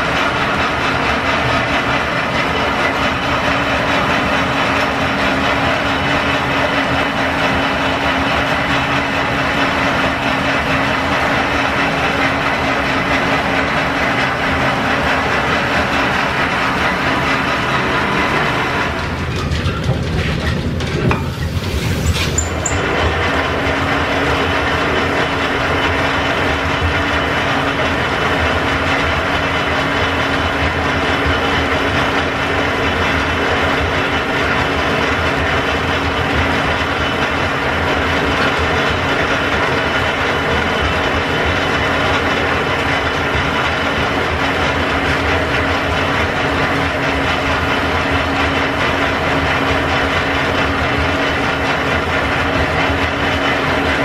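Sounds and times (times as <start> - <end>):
lathe cutting metal bar: 0.0 - 54.0.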